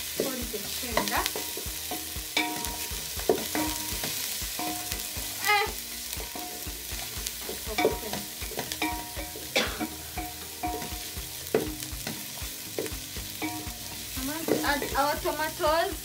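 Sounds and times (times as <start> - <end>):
onions sizzling: 0.0 - 16.0
spoon knocking and scraping pot: 0.2 - 5.3, 6.2 - 15.0.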